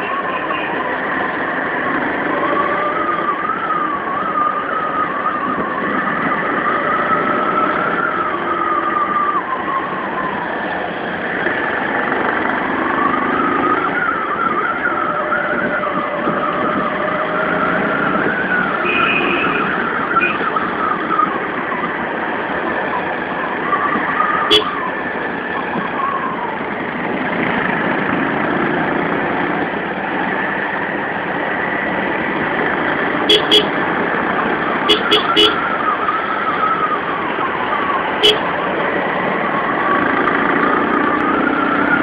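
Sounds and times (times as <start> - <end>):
road noise: 0.0 - 42.0.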